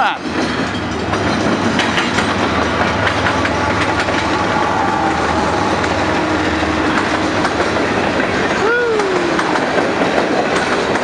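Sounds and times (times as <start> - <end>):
diesel locomotive engines rumbling: 0.0 - 11.0
wheels clicking over rails: 0.2 - 11.0.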